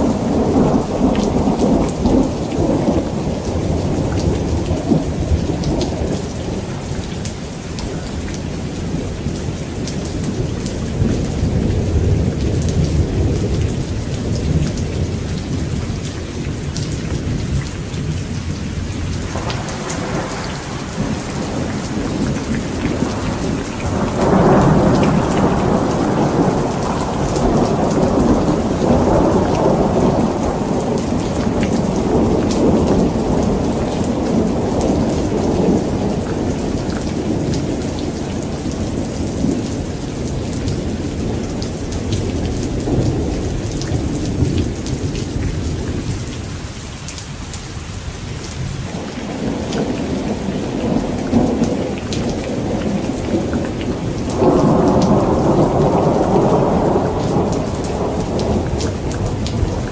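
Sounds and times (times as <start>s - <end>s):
rolling thunder: 0.0s - 7.2s, 7.8s - 46.6s, 48.6s - 59.9s
steady rain: 0.0s - 59.9s.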